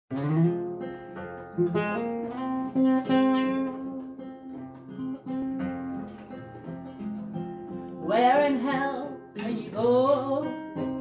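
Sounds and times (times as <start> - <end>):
acoustic guitars playing: 0.1 - 11.0.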